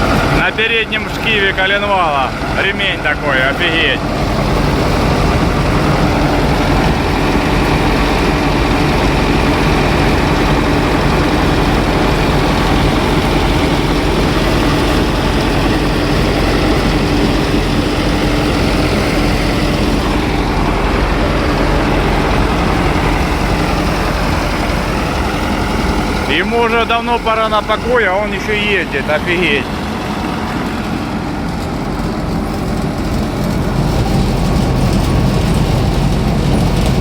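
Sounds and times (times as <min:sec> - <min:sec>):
combine harvester engine idling: 0:00.0 - 0:37.0.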